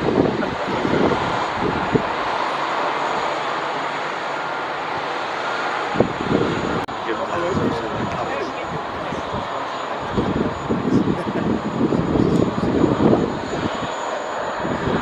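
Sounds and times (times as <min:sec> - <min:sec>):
faint engine whine: 0:00.0 - 0:15.0
jet engines running: 0:00.0 - 0:15.0.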